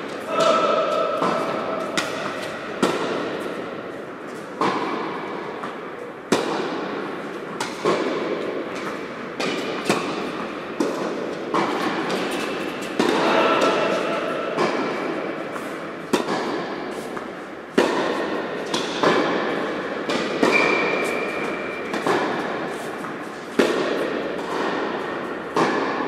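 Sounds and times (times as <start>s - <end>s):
ball bouncing on hard court: 0.2s - 3.7s, 4.6s - 26.0s
tennis ball struck by rackets: 0.2s - 26.0s.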